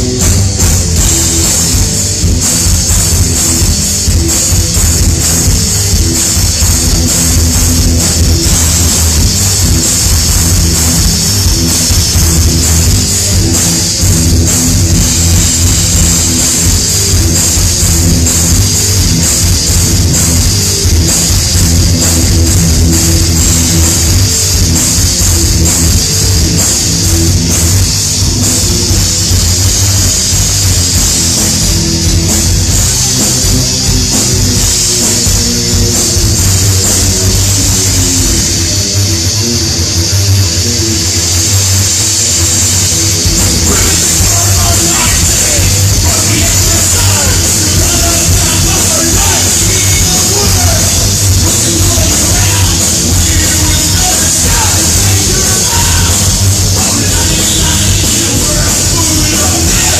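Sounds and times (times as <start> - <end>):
distorted guitars: 0.0 - 59.9
drum kit: 0.0 - 59.9
metal band playing live: 0.0 - 59.9.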